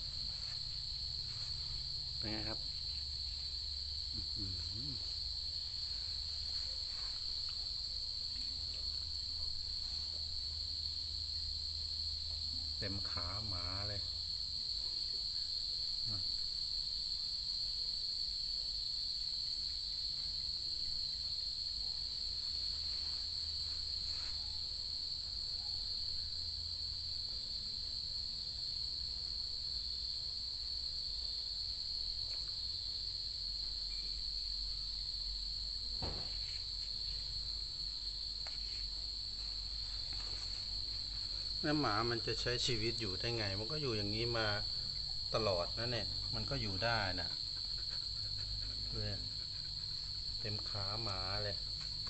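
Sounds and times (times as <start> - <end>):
faint low hum: 0.0 - 18.8, 19.4 - 52.0
crickets chirring: 0.0 - 52.0.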